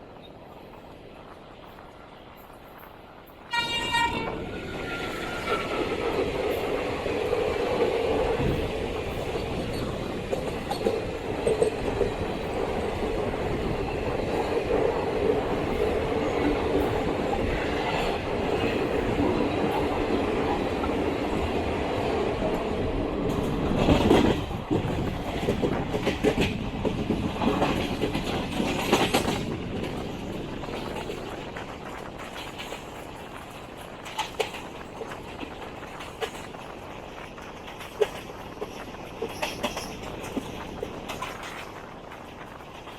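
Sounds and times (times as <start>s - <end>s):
steady train hum: 0.0s - 42.9s
train clanks and squeals: 0.0s - 42.9s
train wheels clattering over rail joints: 4.6s - 42.9s.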